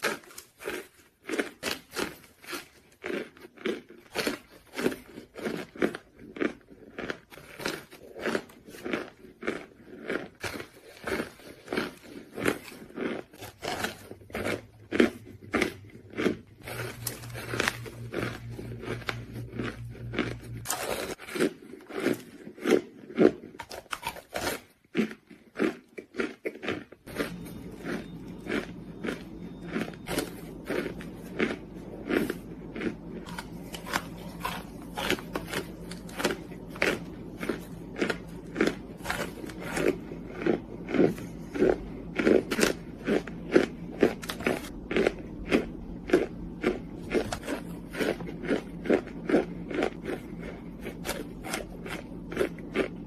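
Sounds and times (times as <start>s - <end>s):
crunchy chewing: 0.0s - 53.0s
low steady hum: 0.0s - 53.0s.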